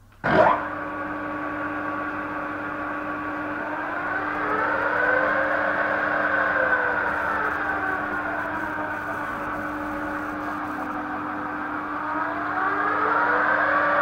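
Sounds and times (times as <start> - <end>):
pillar drill motor humming: 0.2 - 14.0.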